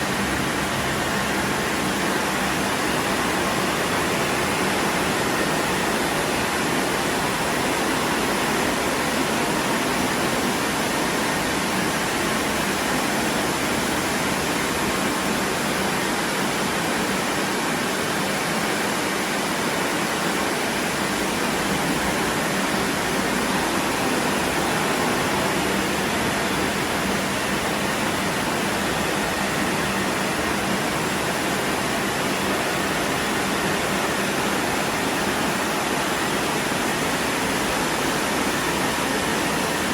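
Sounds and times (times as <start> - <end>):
car wash rushing noise: 0.0 - 39.9.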